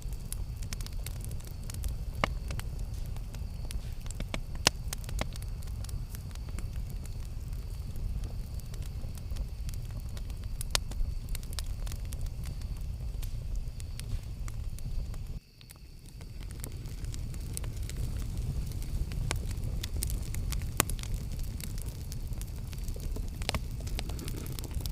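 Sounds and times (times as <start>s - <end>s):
burning wood crackling and popping: 0.0s - 24.9s
campfire rumbling: 0.0s - 24.9s.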